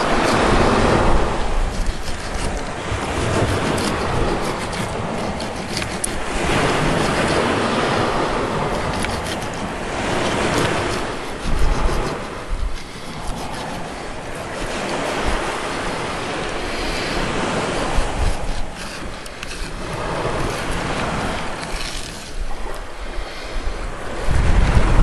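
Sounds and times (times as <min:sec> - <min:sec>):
surf washing on beach: 0:00.0 - 0:25.0
wind buffeting microphone: 0:00.0 - 0:25.0.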